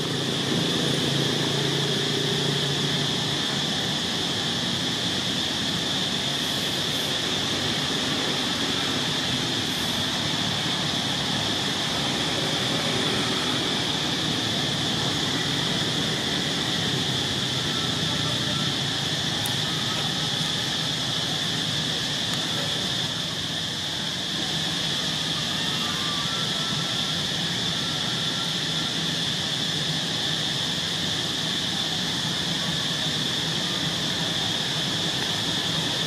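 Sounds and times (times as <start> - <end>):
high-pitched insect drone: 0.0 - 36.0.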